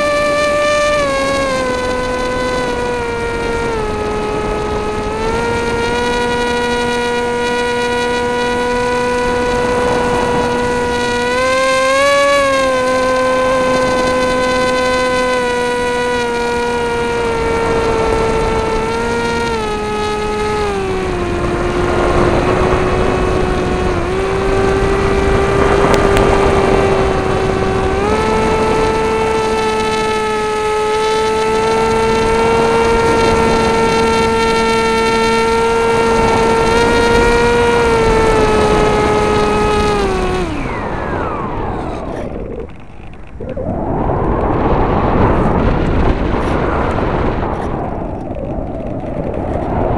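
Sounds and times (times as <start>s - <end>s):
electric motor and propeller whining: 0.0s - 49.9s
wind rushing over microphone: 0.0s - 49.9s.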